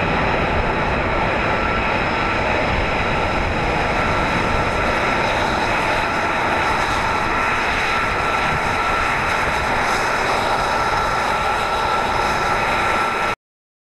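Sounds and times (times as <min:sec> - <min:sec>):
high-pitched jet whine: 0:00.0 - 0:13.4
jet engine roar: 0:00.0 - 0:13.4.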